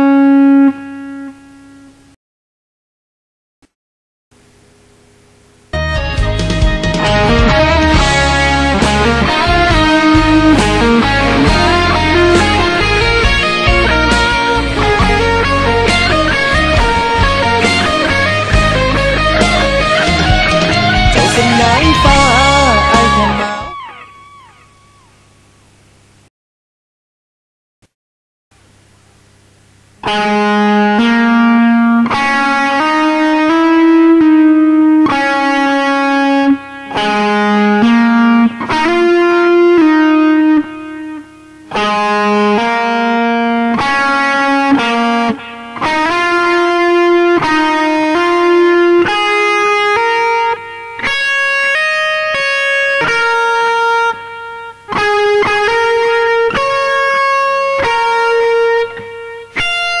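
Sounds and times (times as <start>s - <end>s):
electric guitar lead solo: 0.0s - 2.1s, 5.8s - 25.6s, 30.0s - 60.0s.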